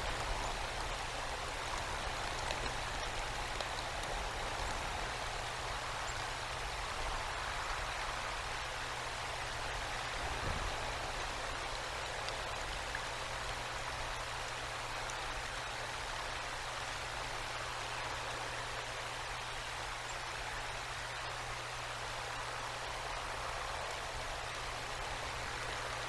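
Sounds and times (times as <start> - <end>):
wind and icy rain hissing: 0.0 - 26.0.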